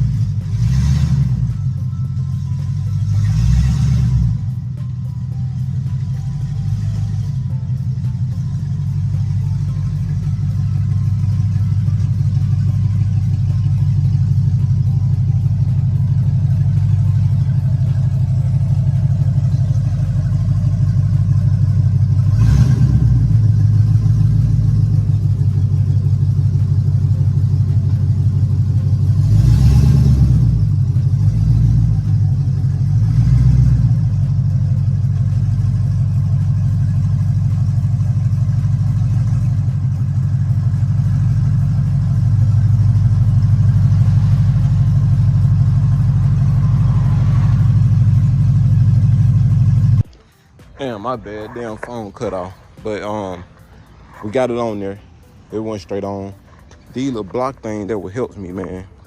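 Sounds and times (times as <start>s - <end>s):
car engine running and revving: 0.0s - 59.0s.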